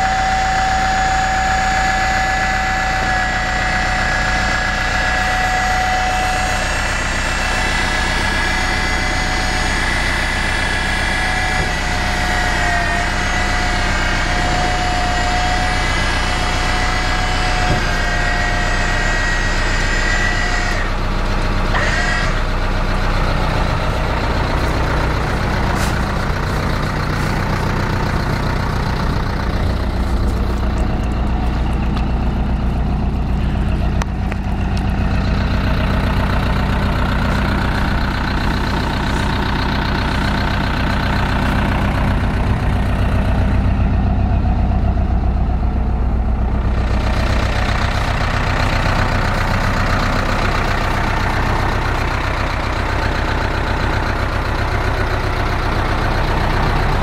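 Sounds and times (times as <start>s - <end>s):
high steady whine: 0.0s - 54.4s
diesel engine idling: 0.0s - 57.0s.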